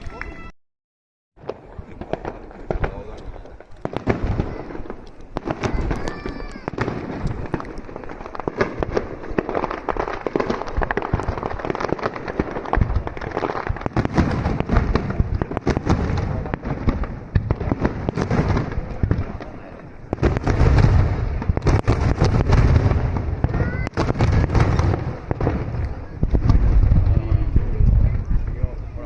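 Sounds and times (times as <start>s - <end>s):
fireworks crackling and booming: 1.4s - 29.0s.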